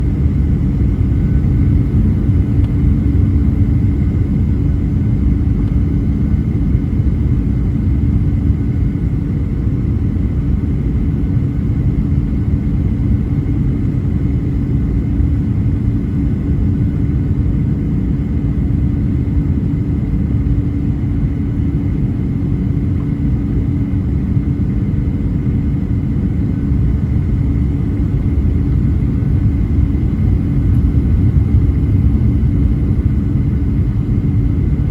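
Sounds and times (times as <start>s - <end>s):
airplane cabin drone: 0.0s - 34.9s
steady hum: 0.0s - 34.9s.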